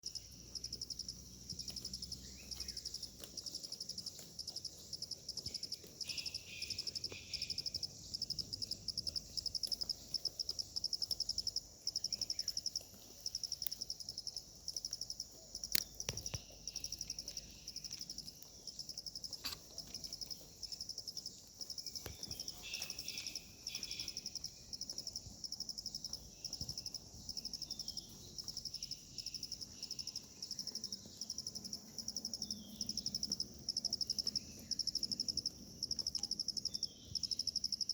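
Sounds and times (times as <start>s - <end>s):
crickets trilling: 0.0s - 37.9s
lower cricket chirps: 0.0s - 37.9s.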